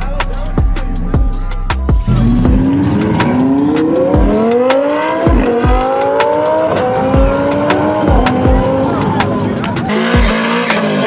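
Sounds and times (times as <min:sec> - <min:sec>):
background music with a beat: 0:00.0 - 0:11.0
car engine accelerating: 0:02.0 - 0:11.0.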